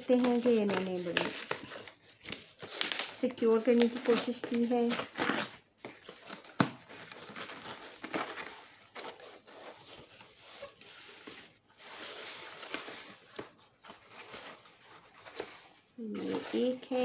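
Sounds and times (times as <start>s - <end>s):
cardboard and paper crinkling: 0.0s - 17.0s.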